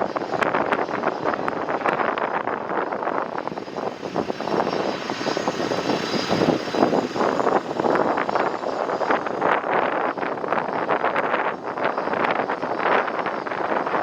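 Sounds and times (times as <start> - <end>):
jet engines rushing: 0.0 - 14.0
wind buffeting microphone: 0.0 - 14.0.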